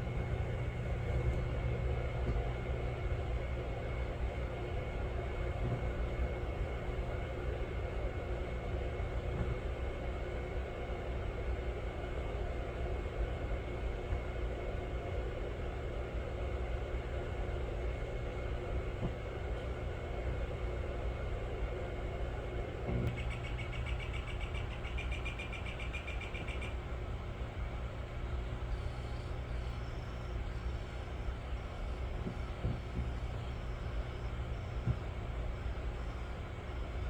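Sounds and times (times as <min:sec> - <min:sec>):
faint constant hum: 0:00.0 - 0:37.0
low mechanical rumble: 0:00.0 - 0:37.0.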